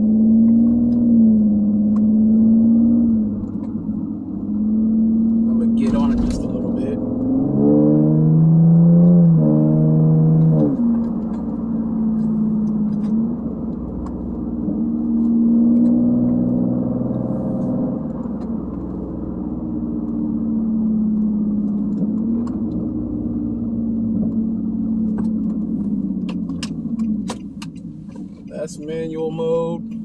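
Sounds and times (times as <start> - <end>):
car exhaust under light throttle: 0.0 - 30.0.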